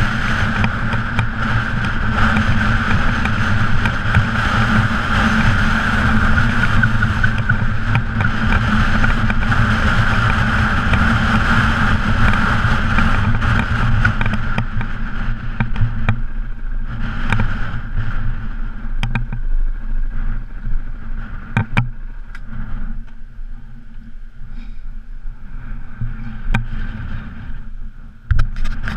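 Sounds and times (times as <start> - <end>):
motorcycle engine running: 0.0 - 28.9
tyre and road noise: 0.0 - 28.9.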